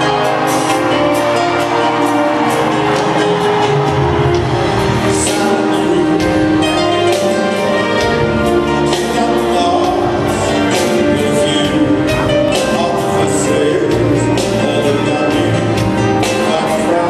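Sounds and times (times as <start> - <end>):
live band playing with singer: 0.0 - 17.0.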